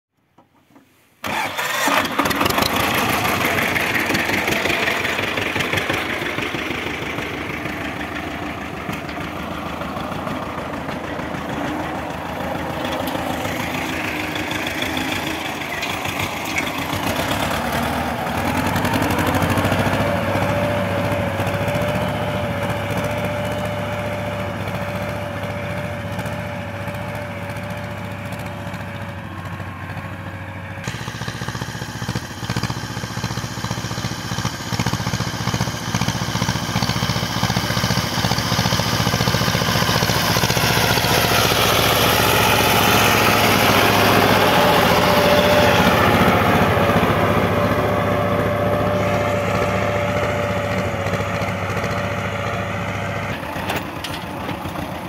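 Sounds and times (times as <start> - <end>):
tractor engine running: 0.2 - 55.0
engine whine under load: 1.2 - 54.9.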